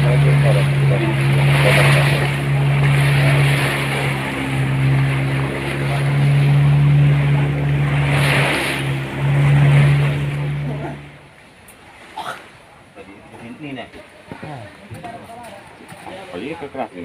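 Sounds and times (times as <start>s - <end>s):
boat engine drone: 0.0s - 17.0s
water rushing past hull: 0.0s - 17.0s.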